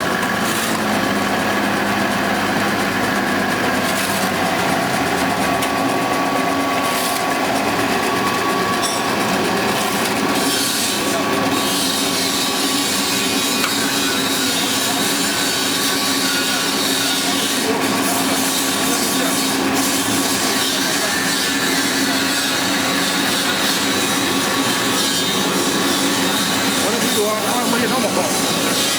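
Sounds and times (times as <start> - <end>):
pellet press grinding: 0.0 - 28.9
steady machine tones: 0.0 - 28.9.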